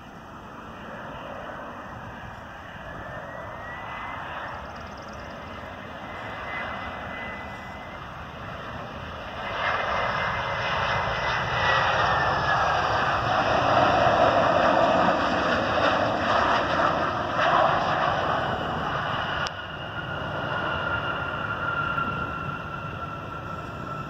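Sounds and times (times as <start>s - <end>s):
jet engine rumble with whine: 0.0s - 24.0s.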